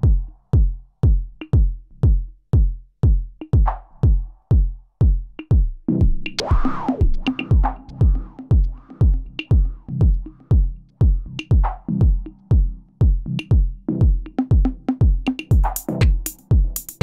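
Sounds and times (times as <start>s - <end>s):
drum machine kick pattern: 0.0s - 17.0s.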